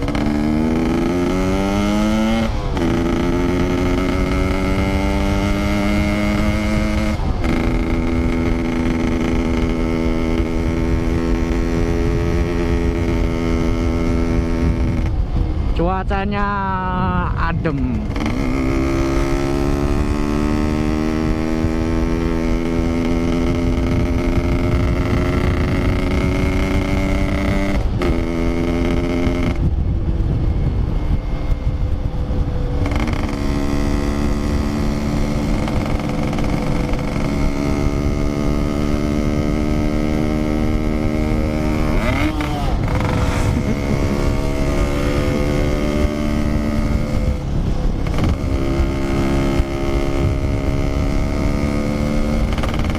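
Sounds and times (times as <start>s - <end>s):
two-stroke motorcycle engine cruising: 0.0s - 52.9s.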